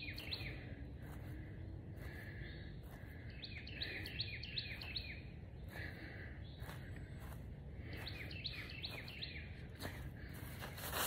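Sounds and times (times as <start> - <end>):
bird chirping: 0.0 - 10.0
outdoor background noise: 0.0 - 11.0.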